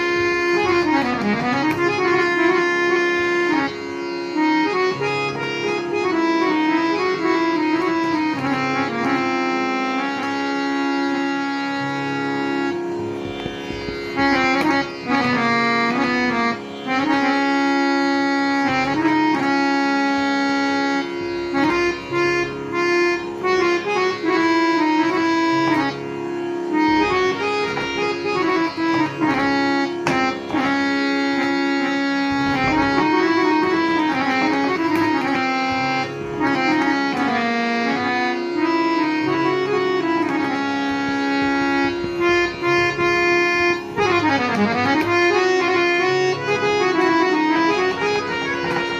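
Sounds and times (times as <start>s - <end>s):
harmonium melody over drone: 0.0s - 48.9s.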